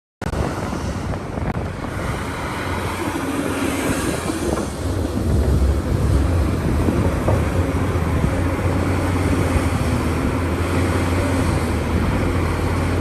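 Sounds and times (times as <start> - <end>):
excavator diesel engine rumbling: 0.2 - 13.0
wind buffeting microphone: 0.2 - 13.0.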